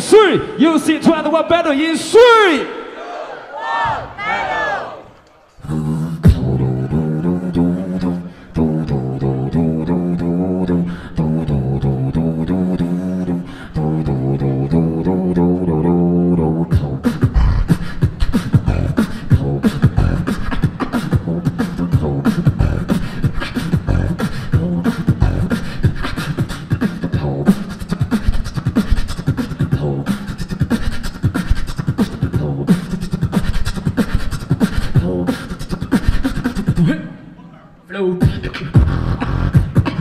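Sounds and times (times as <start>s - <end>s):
beatboxing into a microphone: 5.5s - 40.0s.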